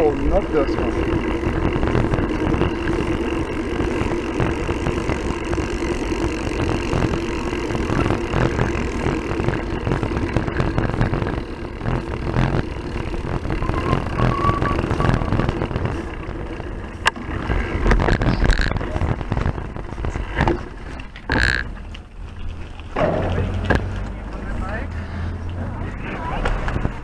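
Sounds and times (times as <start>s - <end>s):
steady low hum: 0.0s - 27.0s
tyres on asphalt: 0.0s - 27.0s.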